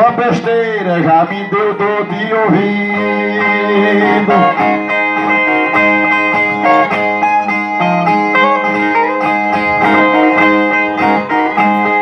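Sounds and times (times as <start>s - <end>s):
strummed string instrument: 0.1s - 12.0s.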